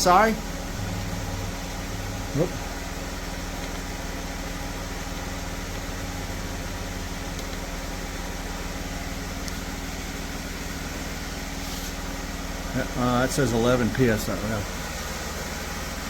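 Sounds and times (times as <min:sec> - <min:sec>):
air compressor humming: 0:00.0 - 0:16.0.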